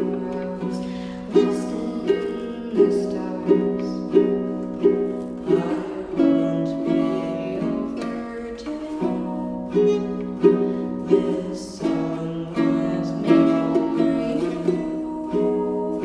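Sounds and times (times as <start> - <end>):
ukulele chord strokes: 0.0 - 16.0.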